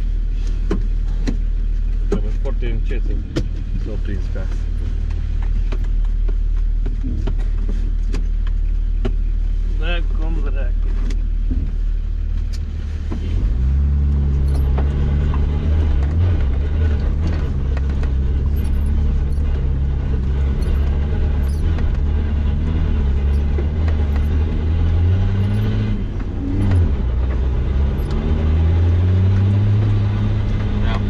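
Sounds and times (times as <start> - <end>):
car engine running under load: 0.0 - 31.0.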